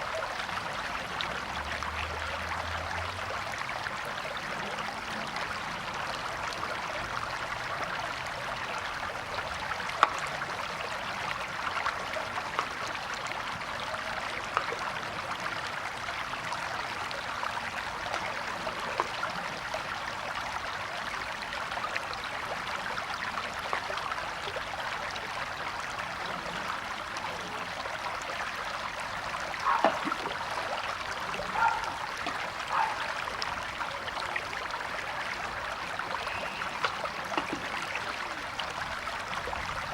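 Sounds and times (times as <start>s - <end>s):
stream flowing over rocks: 0.0s - 39.9s
water splashes and plinks: 0.0s - 39.9s.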